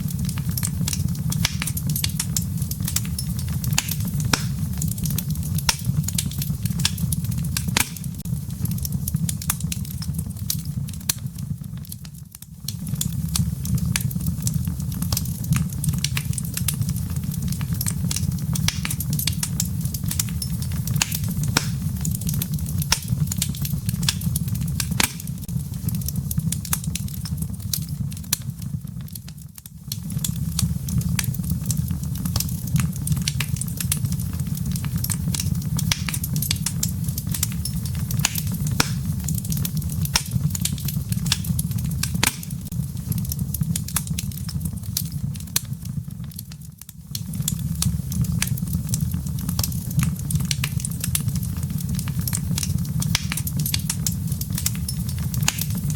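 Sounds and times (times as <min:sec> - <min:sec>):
low rumble of flame: 0:00.0 - 0:55.9
wood fire pops and crackles: 0:00.0 - 0:55.9.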